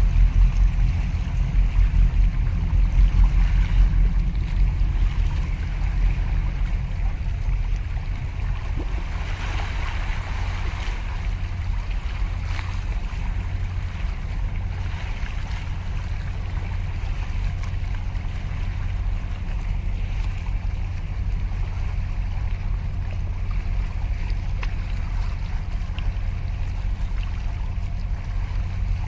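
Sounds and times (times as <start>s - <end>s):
steady low rumble: 0.0s - 29.0s
waves lapping against concrete: 0.0s - 29.0s.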